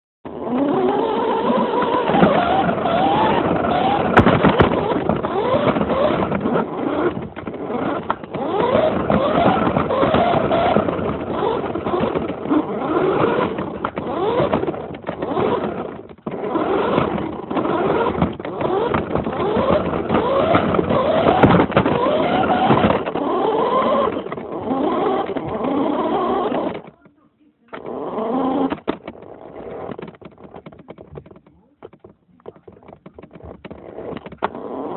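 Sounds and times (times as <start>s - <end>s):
rc car motor whine: 0.3s - 27.0s, 27.7s - 31.0s, 32.4s - 34.9s
wheels rolling: 0.3s - 34.9s.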